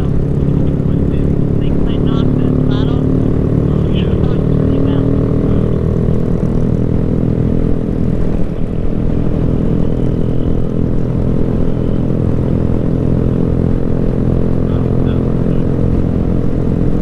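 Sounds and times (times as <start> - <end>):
low wind rumble: 0.0 - 17.0
motorcycle engine running: 0.0 - 17.0.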